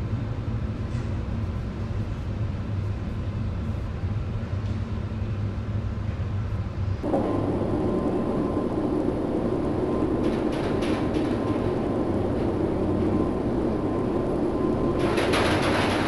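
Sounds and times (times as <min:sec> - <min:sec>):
faint steady hum: 0:00.0 - 0:16.0
rumble of wind and sea: 0:00.0 - 0:16.0.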